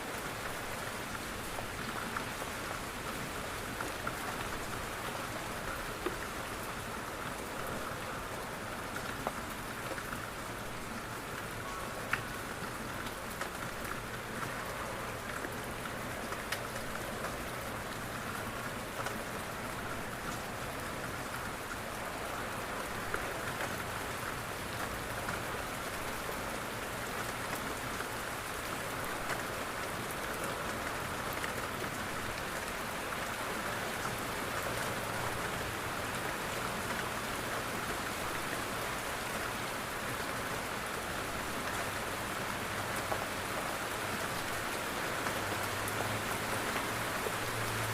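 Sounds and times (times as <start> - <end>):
rain on a window: 0.0 - 47.9.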